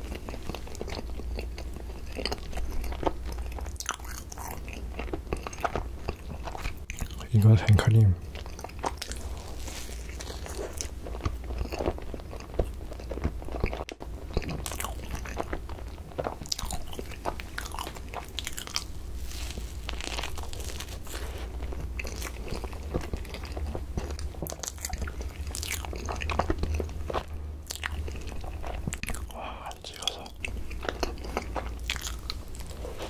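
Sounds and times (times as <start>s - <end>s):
chewing and mouth smacking: 0.0s - 7.4s, 8.2s - 33.0s.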